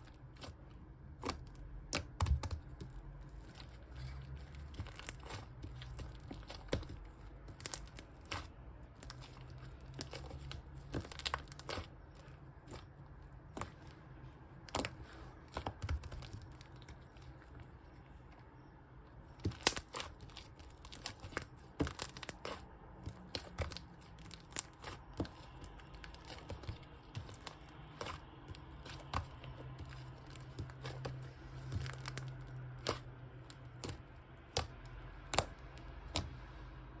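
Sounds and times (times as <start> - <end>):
slime crackling and tearing: 0.0 - 17.9, 19.2 - 36.4.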